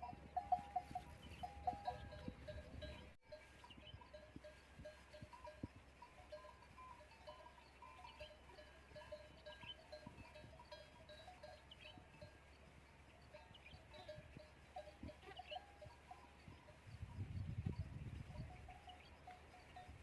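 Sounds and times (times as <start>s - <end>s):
camel bells tinkling: 0.0s - 20.0s.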